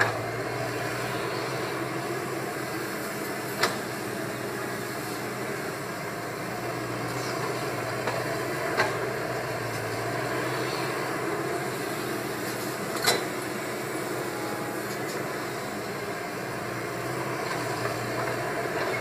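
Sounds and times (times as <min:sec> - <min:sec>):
excavator engine humming: 0:00.0 - 0:19.0.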